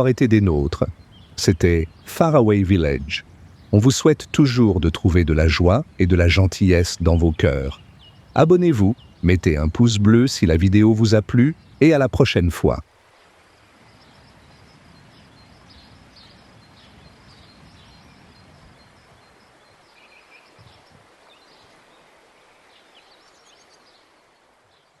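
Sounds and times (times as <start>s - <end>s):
small birds chirping: 0.0s - 25.0s
steady hiss: 0.0s - 25.0s.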